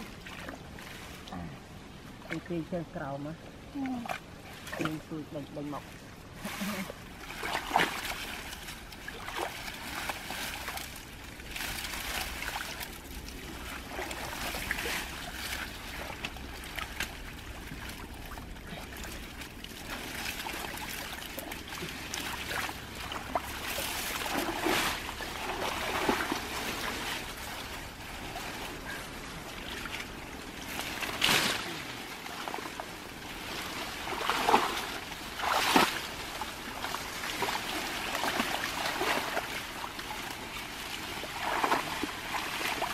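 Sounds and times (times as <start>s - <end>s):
water sloshing and trickling: 0.0s - 42.9s
water splashes: 0.0s - 42.9s.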